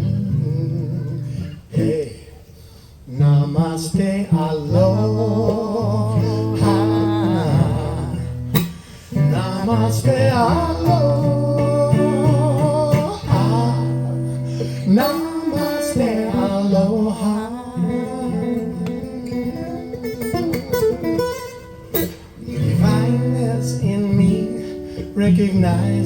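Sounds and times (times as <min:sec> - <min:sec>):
person singing wordlessly: 0:00.0 - 0:02.4, 0:03.1 - 0:21.5, 0:22.4 - 0:26.0
acoustic guitar: 0:00.0 - 0:26.0.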